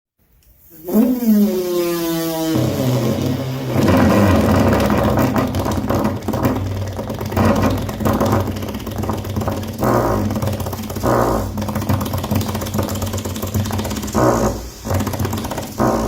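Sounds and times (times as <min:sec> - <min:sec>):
rough pulsing engine noise: 0:00.9 - 0:16.0.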